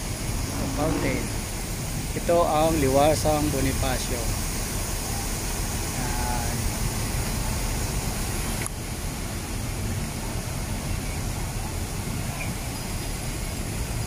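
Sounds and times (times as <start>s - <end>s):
city traffic: 0.0s - 14.0s
fountain water splashing: 0.0s - 14.0s.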